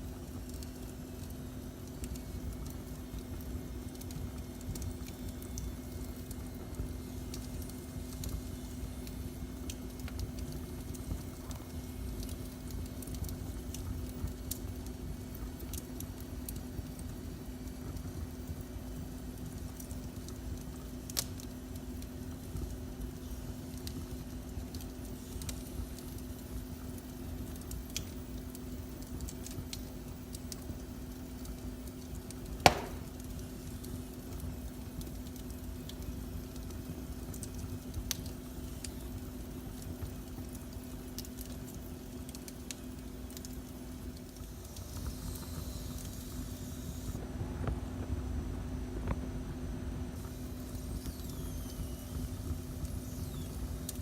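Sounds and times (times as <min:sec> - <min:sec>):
wood fire crackling: 0:00.0 - 0:47.2, 0:50.2 - 0:54.0
faint steady hum: 0:00.0 - 0:54.0.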